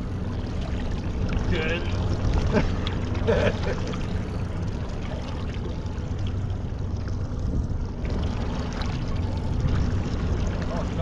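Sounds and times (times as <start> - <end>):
boat engine humming: 0.0 - 11.0
water rushing around hull: 0.0 - 11.0.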